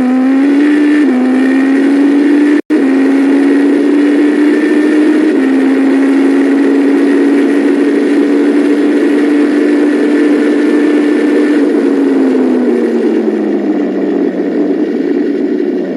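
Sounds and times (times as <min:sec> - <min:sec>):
racing car engine at high revs: 0:00.0 - 0:15.9.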